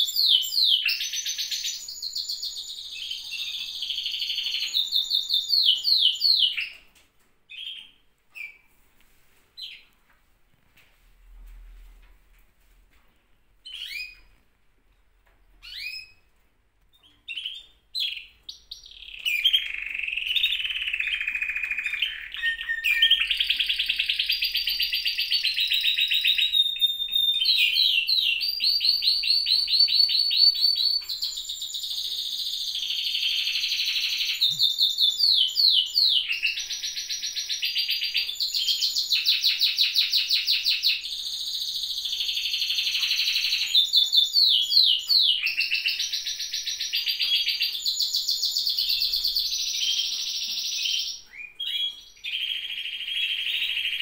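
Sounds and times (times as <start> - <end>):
canaries singing: 0.0 - 8.8, 9.6 - 10.0, 13.6 - 14.5, 15.2 - 54.0.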